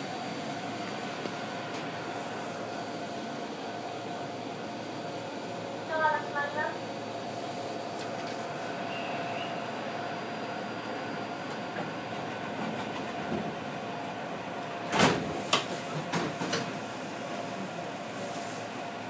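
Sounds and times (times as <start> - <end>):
train cab hum: 0.0 - 19.0.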